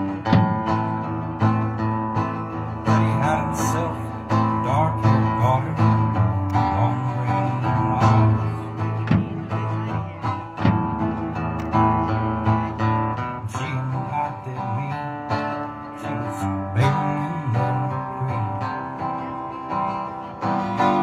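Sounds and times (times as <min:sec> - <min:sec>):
acoustic guitar strummed: 0:00.0 - 0:21.0.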